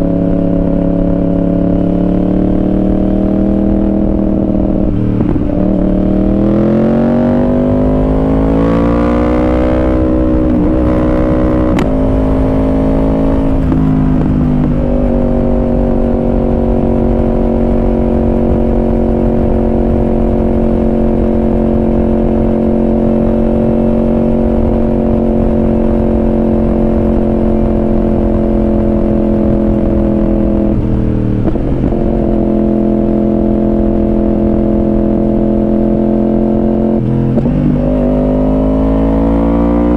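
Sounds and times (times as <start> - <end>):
sport bike engine revving: 0.0 - 39.9.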